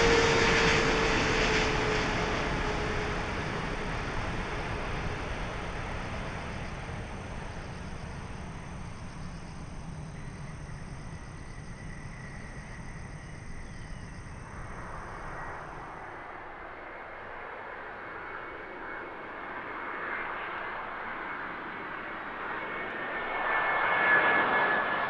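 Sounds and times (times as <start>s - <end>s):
jet engine rumble: 0.0s - 25.0s.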